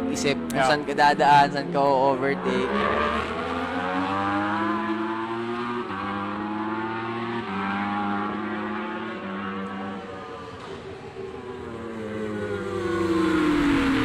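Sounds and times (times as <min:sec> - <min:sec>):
motorcycle engine accelerating hard: 0:00.0 - 0:14.0.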